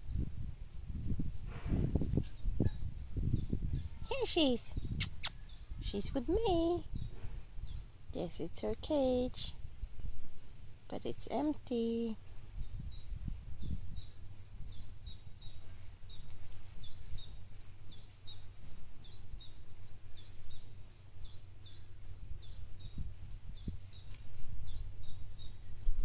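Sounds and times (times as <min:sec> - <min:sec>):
small bird chirping: 0:02.2 - 0:09.5, 0:12.0 - 0:26.0.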